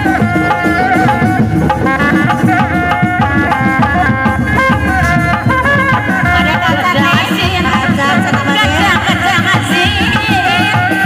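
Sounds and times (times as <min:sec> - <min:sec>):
melody of held stepping notes: 0:00.0 - 0:09.6
rapid hand-drum strokes: 0:00.0 - 0:11.0.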